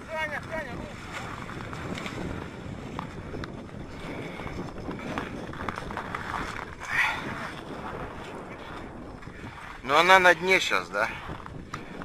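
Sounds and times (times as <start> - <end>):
water splashes: 0.0 - 12.0
wind rumbling on microphone: 0.0 - 12.0.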